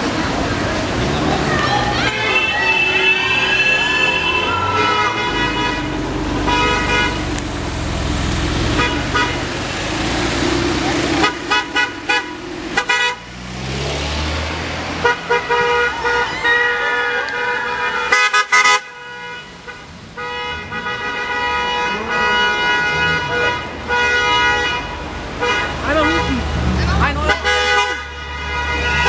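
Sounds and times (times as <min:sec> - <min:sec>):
street traffic: 0:00.0 - 0:29.0
car horns honking: 0:00.8 - 0:29.0.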